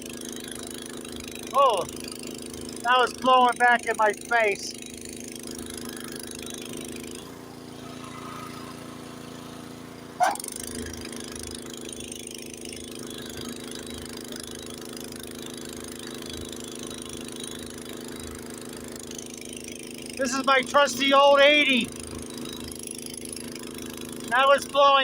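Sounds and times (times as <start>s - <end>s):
snowblower engine running: 0.0s - 25.0s.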